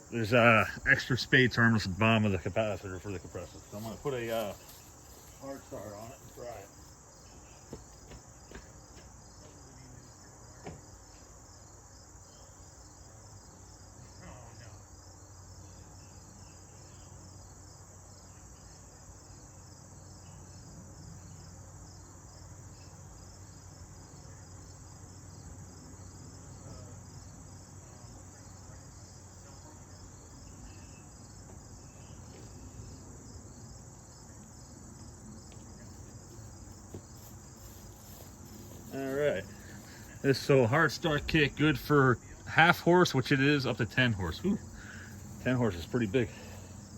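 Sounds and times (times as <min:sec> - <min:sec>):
insects chirping: 0:00.0 - 0:46.9.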